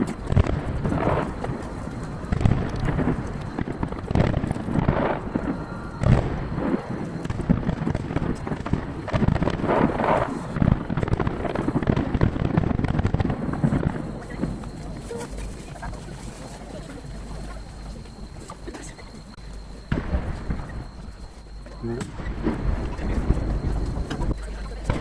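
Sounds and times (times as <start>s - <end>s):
distant fireworks bursting: 0.0s - 25.0s.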